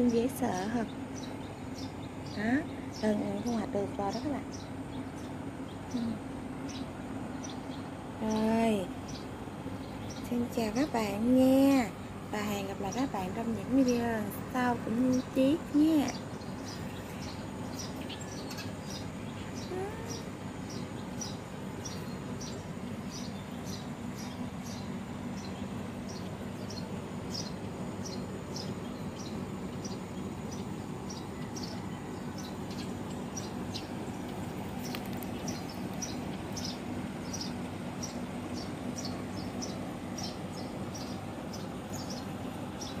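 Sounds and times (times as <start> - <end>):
low background rumble: 0.0 - 43.0
small birds chirping: 0.0 - 43.0.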